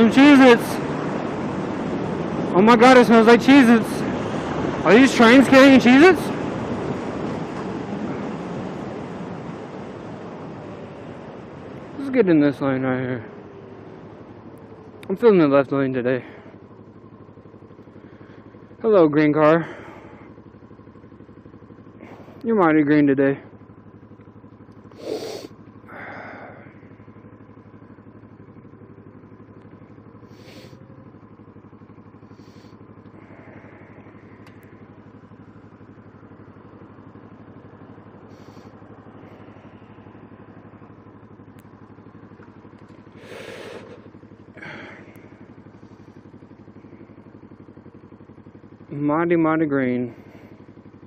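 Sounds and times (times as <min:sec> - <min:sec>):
motorcycle engine humming: 0:00.0 - 0:51.0.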